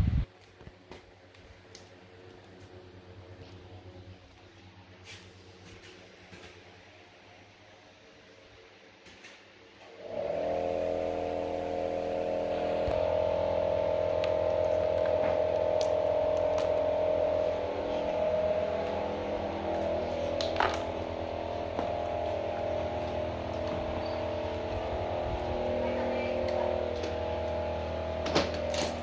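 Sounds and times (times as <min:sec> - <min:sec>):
electric fan motor hum: 0:00.0 - 0:08.5, 0:09.8 - 0:29.0.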